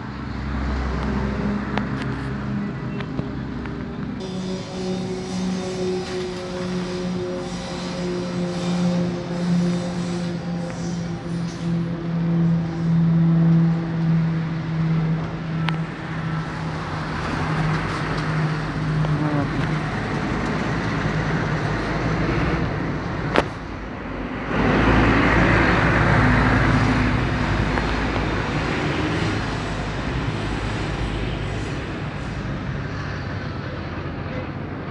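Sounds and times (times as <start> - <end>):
city traffic noise: 0.0 - 34.9
military aircraft rumble: 0.0 - 34.9.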